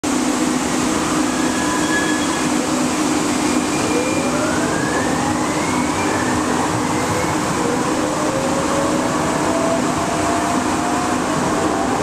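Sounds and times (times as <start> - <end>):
train car hum and hiss: 0.0 - 12.0.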